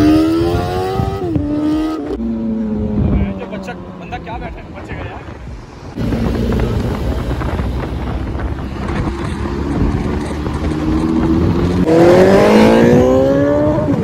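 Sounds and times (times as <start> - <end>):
motorcycle engine accelerating: 0.0 - 3.6, 6.0 - 14.0
wind rushing over microphone: 0.0 - 14.0.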